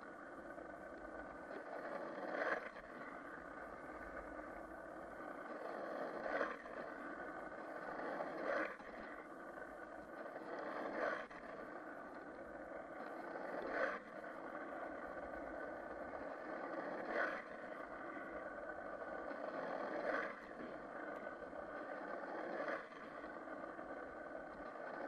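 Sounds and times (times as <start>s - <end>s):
skateboard wheels rolling on asphalt: 0.0s - 25.0s.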